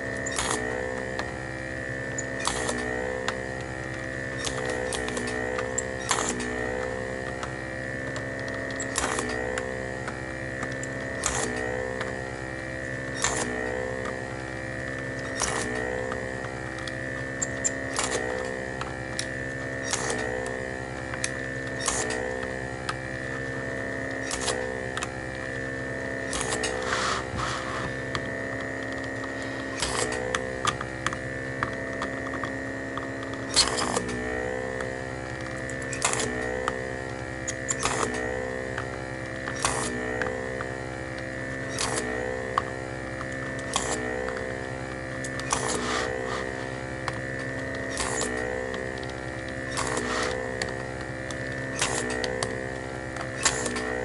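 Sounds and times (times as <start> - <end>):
vacuum pump running: 0.0 - 54.0.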